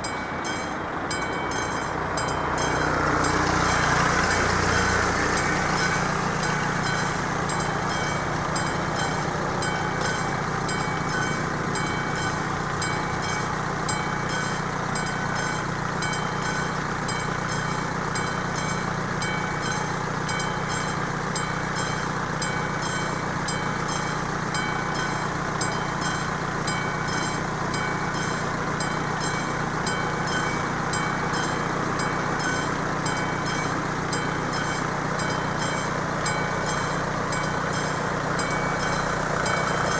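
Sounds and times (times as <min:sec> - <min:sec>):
car engine idling: 0:00.0 - 0:39.9
level-crossing warning bell ringing: 0:00.0 - 0:39.9.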